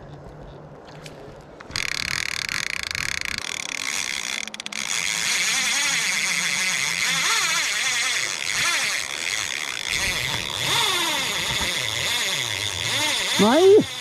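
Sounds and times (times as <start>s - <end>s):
fly reel screaming: 1.8s - 14.0s.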